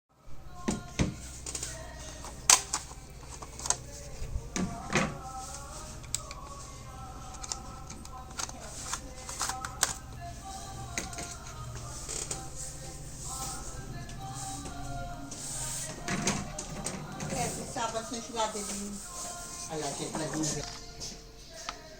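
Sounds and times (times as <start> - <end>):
steady low hum: 0.2 - 21.9.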